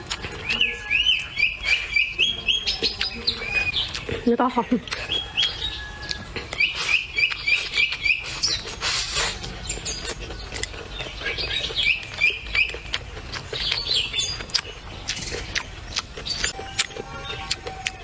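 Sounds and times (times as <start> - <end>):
person chewing and slurping: 0.0 - 18.0
small bird chirping: 0.1 - 18.0.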